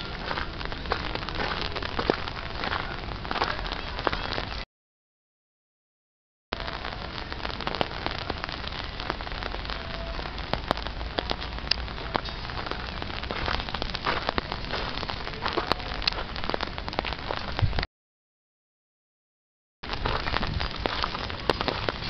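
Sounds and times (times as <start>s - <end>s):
rain falling: 0.0s - 4.6s, 6.5s - 17.9s, 19.8s - 22.0s
raindrops ticking close by: 0.0s - 4.6s, 6.6s - 17.9s, 19.8s - 22.0s.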